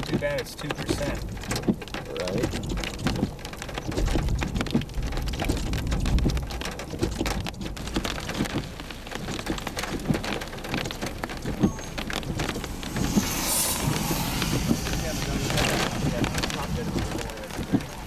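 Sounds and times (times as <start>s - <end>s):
rain hitting windshield: 0.0s - 18.0s
steady low rumble: 0.0s - 18.0s.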